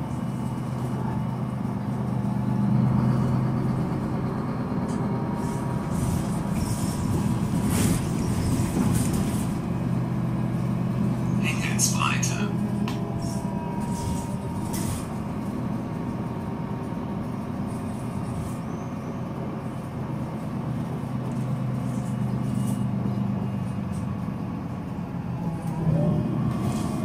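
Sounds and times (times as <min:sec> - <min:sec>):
bus diesel engine idling: 0:00.0 - 0:27.0.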